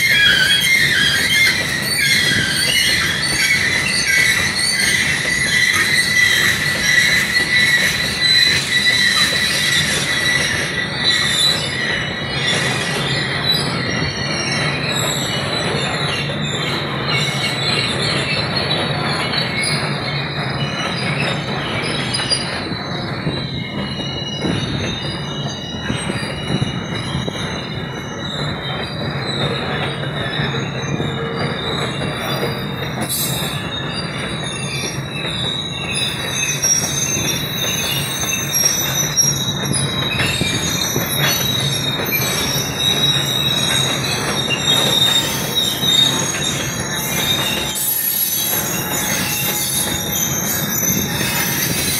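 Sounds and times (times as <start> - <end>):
rumble of wheels on rail: 0.0 - 51.9
steel wheels squealing: 0.0 - 51.9.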